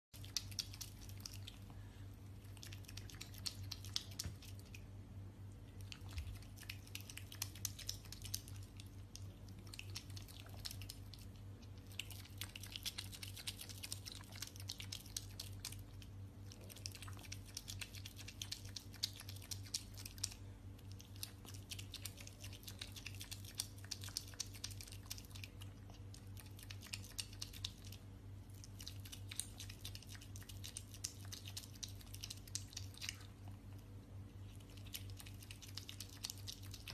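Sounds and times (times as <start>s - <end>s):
pet chewing and crunching food: 0.2s - 36.9s.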